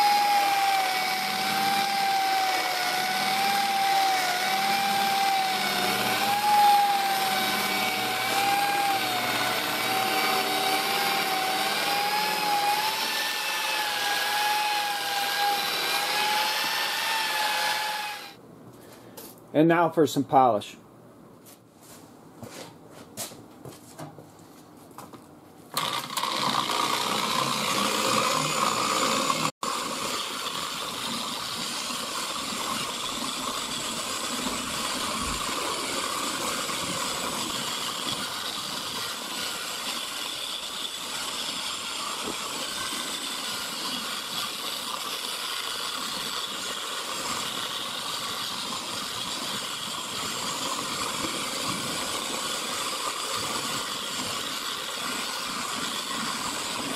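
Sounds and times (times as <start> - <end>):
car polisher running: 0.0 - 18.4, 25.8 - 56.9.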